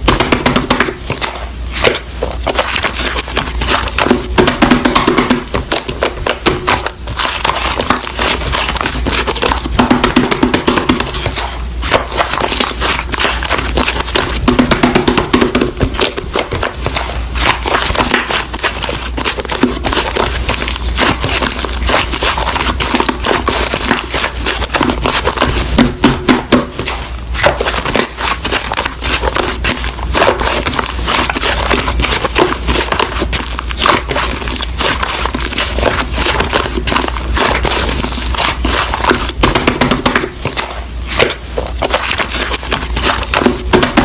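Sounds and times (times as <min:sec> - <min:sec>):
slime squished by hand: 0:00.0 - 0:44.0.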